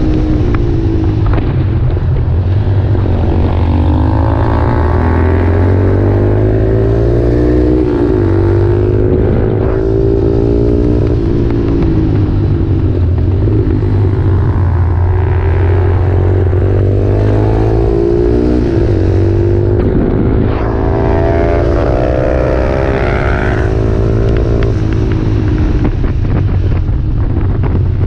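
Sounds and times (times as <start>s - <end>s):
motorcycle engine accelerating: 0.0s - 28.0s
wind rumble on microphone: 0.0s - 28.0s.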